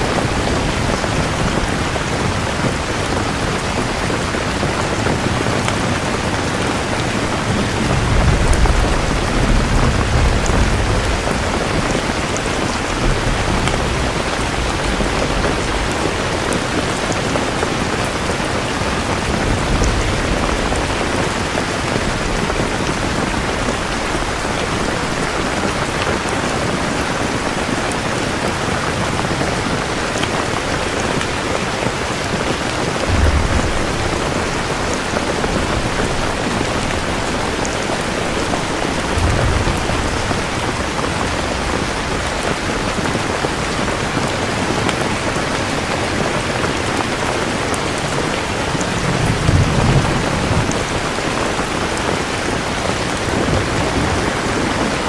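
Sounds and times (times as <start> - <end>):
heavy rain pattering: 0.0 - 55.0
thunder rumbling: 0.0 - 55.0.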